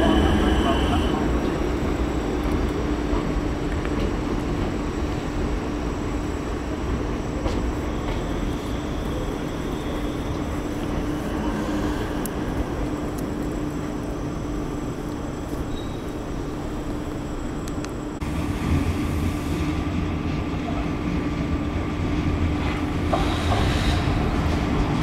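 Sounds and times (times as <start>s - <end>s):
electric train humming: 0.0s - 25.0s.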